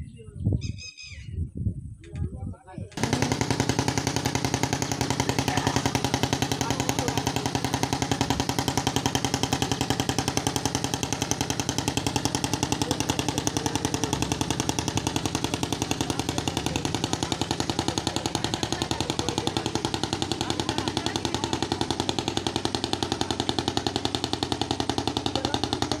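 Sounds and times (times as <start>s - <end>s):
boat diesel engine chugging: 3.0s - 26.0s.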